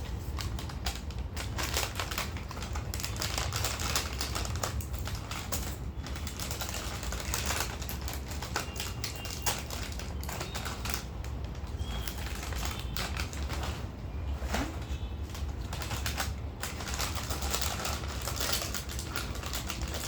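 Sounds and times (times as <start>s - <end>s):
plastic packet crackling: 0.0s - 20.0s.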